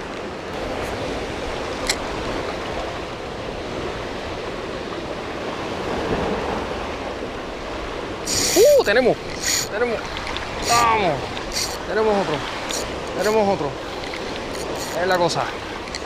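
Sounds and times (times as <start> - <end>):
surf washing against rocks: 0.0 - 16.0.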